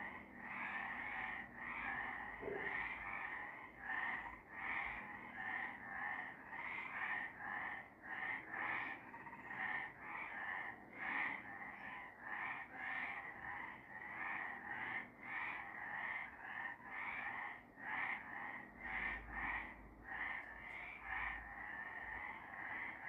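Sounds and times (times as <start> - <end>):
frogs croaking: 0.0 - 23.0.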